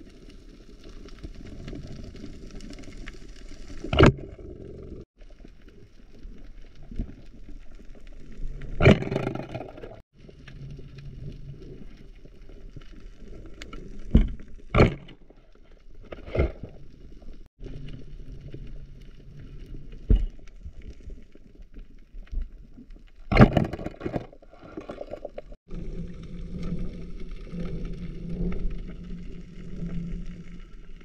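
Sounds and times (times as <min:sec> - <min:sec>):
muffled underwater rumble: 0:00.0 - 0:23.2, 0:24.5 - 0:31.0.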